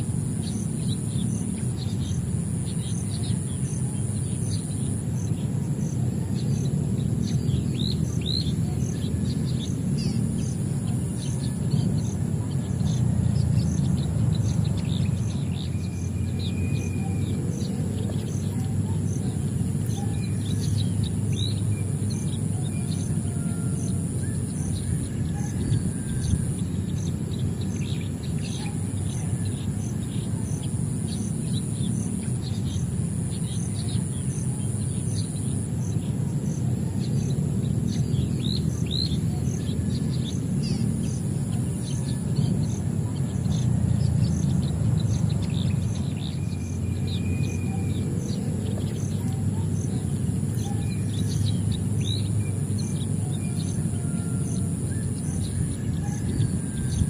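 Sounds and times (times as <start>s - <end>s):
high insect drone: 0.0s - 57.0s
low outdoor rumble: 0.0s - 57.0s
small birds chirping: 0.0s - 57.0s.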